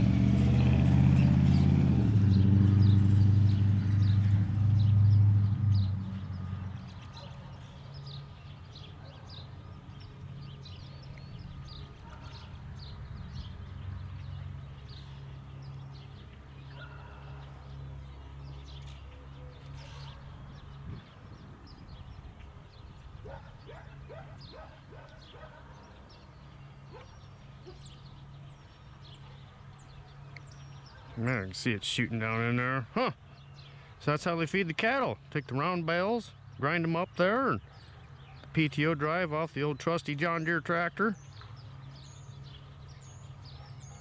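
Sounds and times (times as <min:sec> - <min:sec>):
distant bale grinder humming: 0:00.0 - 0:38.2
small birds chirping: 0:00.0 - 0:44.0.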